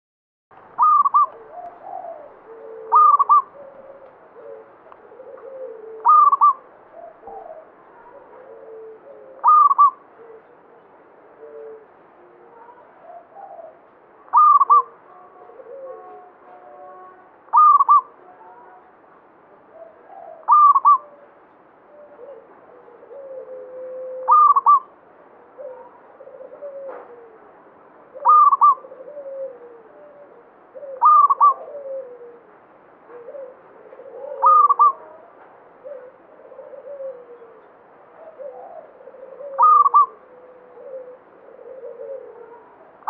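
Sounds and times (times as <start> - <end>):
dove calling: 0.6 - 19.0, 19.6 - 43.0
low dove cooing: 0.8 - 18.9, 19.6 - 43.0.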